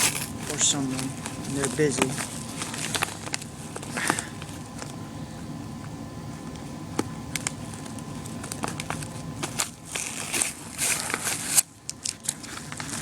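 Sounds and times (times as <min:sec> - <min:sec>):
packaging snapping: 0:00.0 - 0:04.9, 0:07.0 - 0:13.0
packaging crinkling and clicking: 0:00.0 - 0:05.0, 0:06.9 - 0:13.0.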